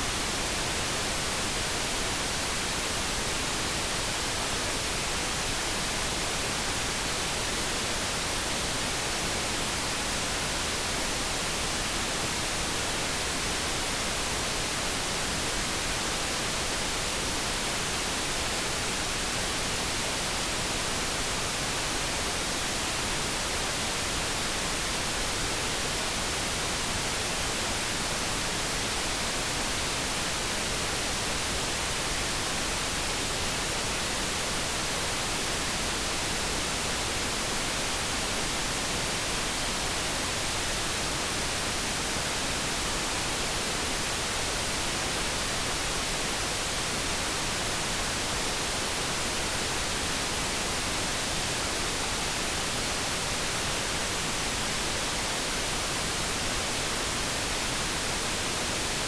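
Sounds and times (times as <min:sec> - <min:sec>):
steady synthesized hiss: 0:00.0 - 0:59.0.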